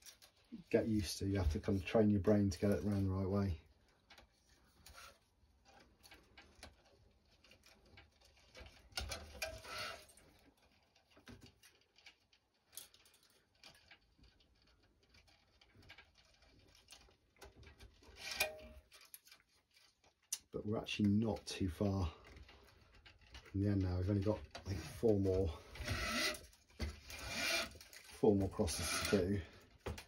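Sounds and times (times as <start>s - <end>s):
string rustling and ticking: 0.0s - 30.0s.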